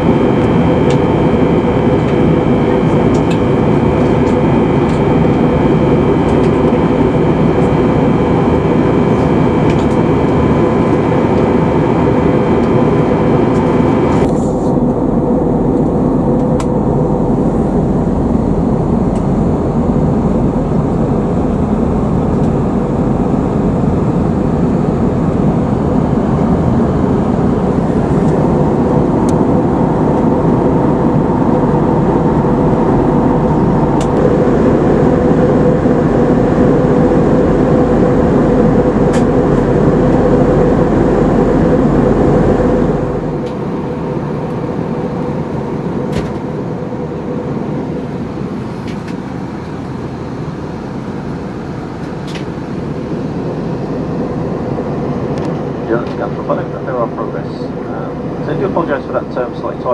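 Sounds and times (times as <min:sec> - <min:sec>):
jet engines droning: 0:00.0 - 0:59.9
steady hum: 0:00.0 - 0:59.9.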